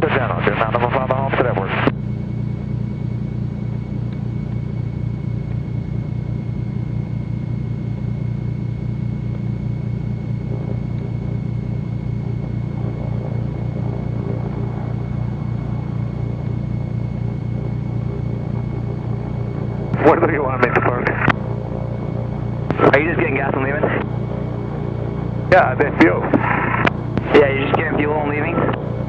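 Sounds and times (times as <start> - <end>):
piston aircraft engines rumbling: 0.0 - 29.0.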